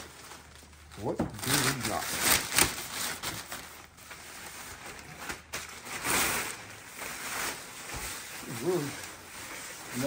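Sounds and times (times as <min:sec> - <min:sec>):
plastic bag rustling and crinkling: 0:00.0 - 0:10.0.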